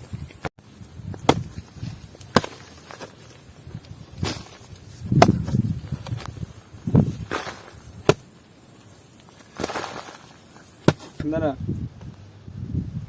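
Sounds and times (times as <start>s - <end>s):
steady high hiss: 0.0s - 11.6s.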